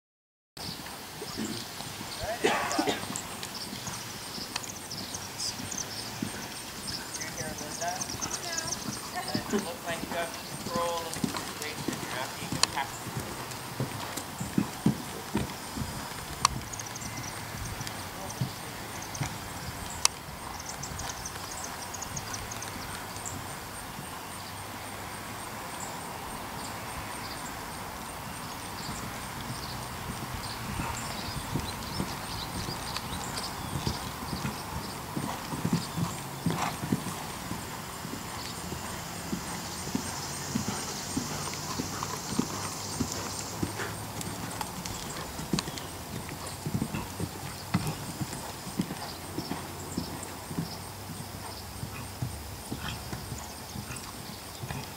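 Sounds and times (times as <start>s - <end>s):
hoofbeats on sand: 1.3s - 25.8s, 26.8s - 54.9s.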